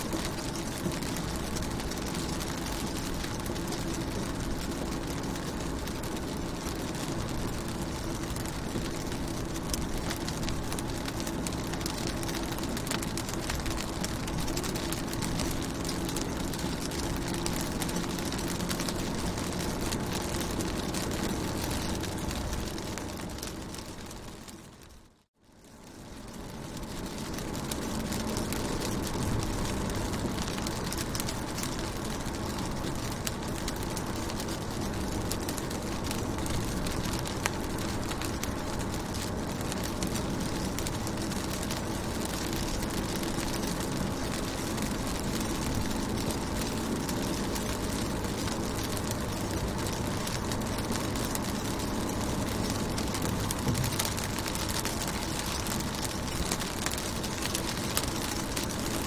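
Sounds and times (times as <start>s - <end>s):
rain on car windows: 0.0s - 59.0s.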